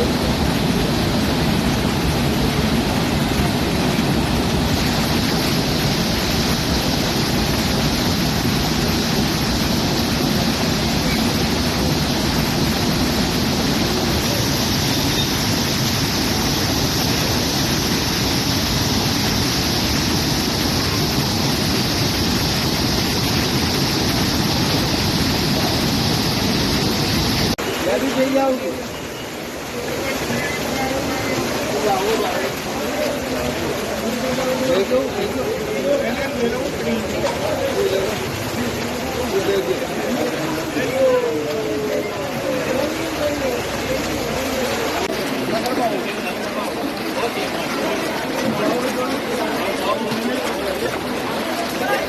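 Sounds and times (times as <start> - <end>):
floodwater rushing: 0.0 - 52.0.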